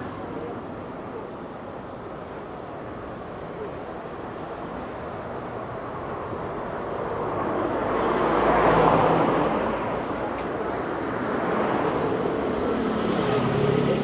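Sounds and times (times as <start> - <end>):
city street traffic noise: 0.0 - 14.0.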